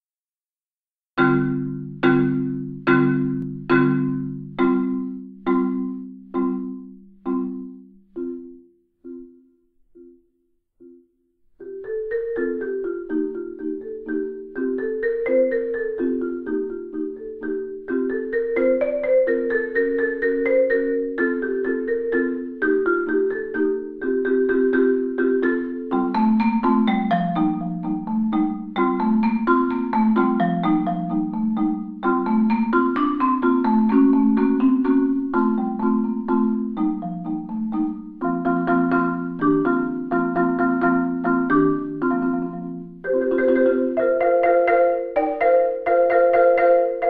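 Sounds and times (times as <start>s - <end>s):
marimba played with mallets: 1.2s - 10.2s, 11.6s - 47.0s.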